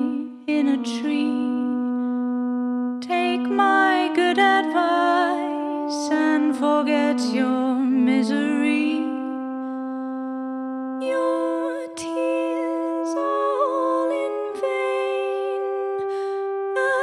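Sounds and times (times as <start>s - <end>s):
woman's wordless vocal melody: 0.0s - 2.1s, 3.0s - 9.4s, 11.0s - 17.0s
sustained keyboard chords: 0.0s - 17.0s.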